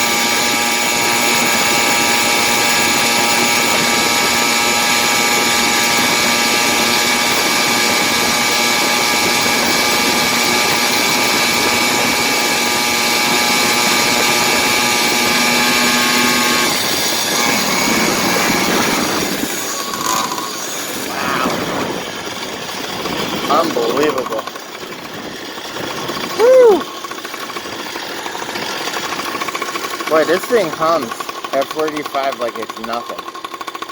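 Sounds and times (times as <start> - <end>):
two-stroke engine running: 0.0 - 33.9.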